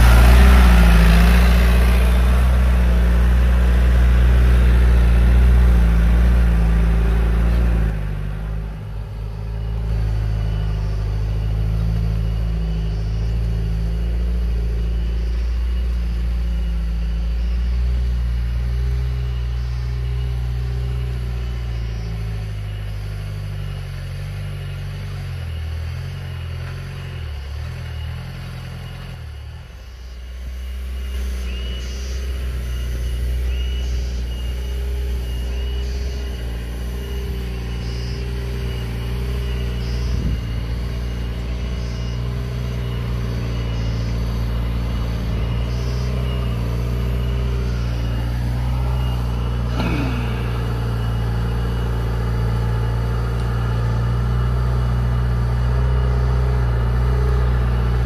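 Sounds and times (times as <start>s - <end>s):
jeep engine running: 0.0s - 58.0s.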